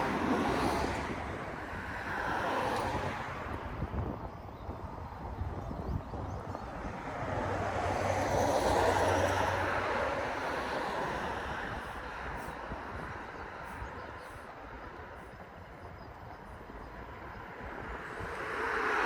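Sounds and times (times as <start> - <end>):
passing vehicle road noise: 0.0 - 4.2, 4.8 - 19.0.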